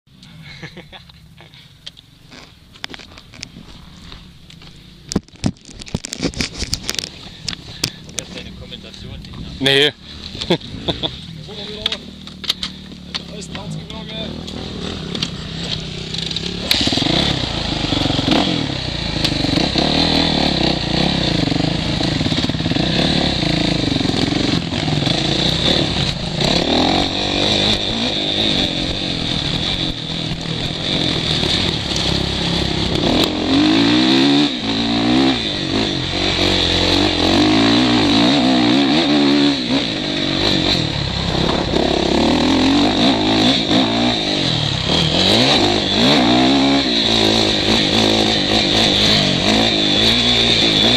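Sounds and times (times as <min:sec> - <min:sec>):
motocross bike engine revving: 0:04.1 - 0:50.9.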